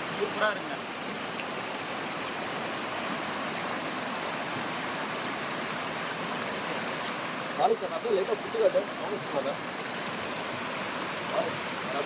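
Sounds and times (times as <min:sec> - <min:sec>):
water rushing at small waterfall: 0:00.0 - 0:12.0.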